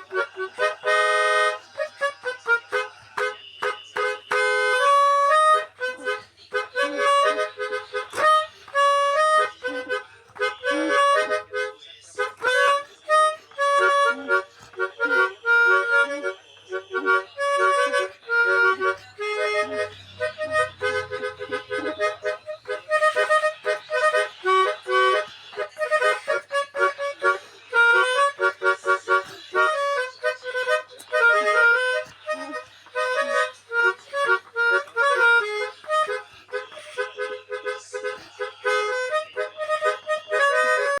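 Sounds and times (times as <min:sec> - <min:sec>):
multi-tone bus horn tune: 0:00.0 - 0:11.7, 0:12.3 - 0:41.0.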